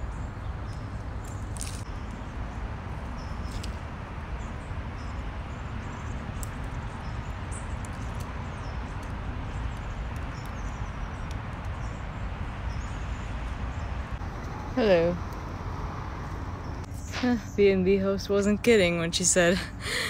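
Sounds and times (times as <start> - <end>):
birds chirping: 0.0 - 20.0
steady low rumble: 0.0 - 20.0.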